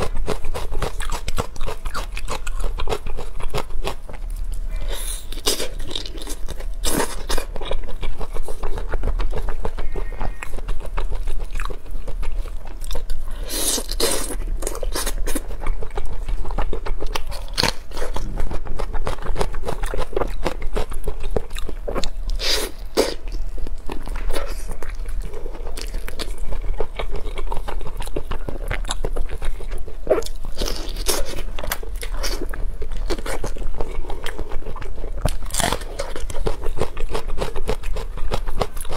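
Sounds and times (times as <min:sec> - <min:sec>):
crunchy bites and chewing: 0:00.0 - 0:38.9.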